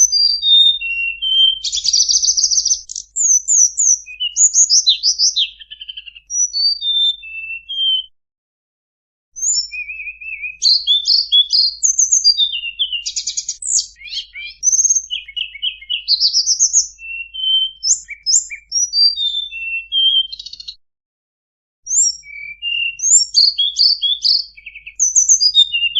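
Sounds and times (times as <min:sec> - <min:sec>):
bird song with whistles and trills: 0:00.0 - 0:08.2, 0:09.4 - 0:20.8, 0:21.8 - 0:25.9.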